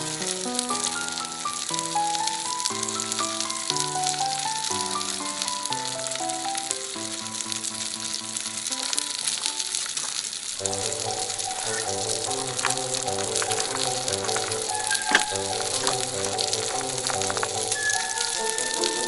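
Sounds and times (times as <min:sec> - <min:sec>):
slow background music: 0:00.0 - 0:10.0, 0:10.6 - 0:19.0
steak sizzling and crackling: 0:00.0 - 0:19.0.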